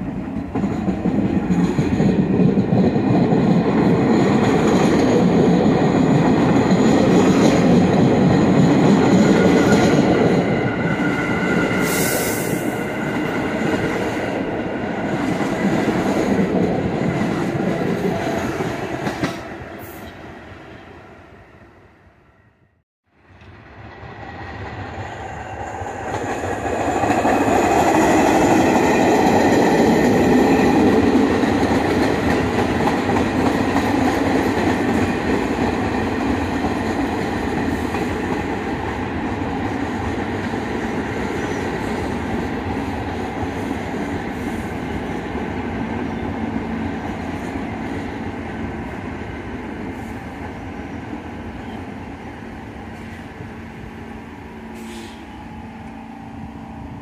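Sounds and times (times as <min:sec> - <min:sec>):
subway train rolling past: 0:00.0 - 0:57.0.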